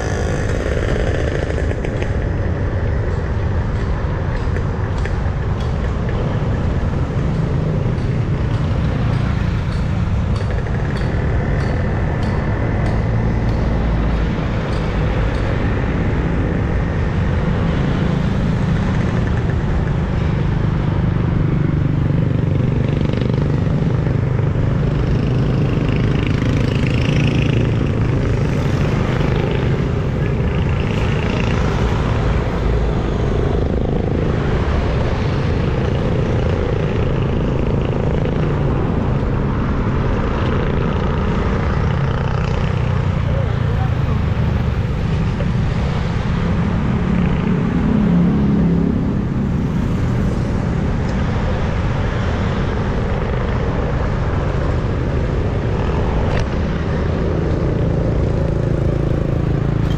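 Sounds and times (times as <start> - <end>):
cars passing: 0.0 - 59.9
loud road rumble: 0.0 - 59.9
motorcycles passing: 0.0 - 59.9.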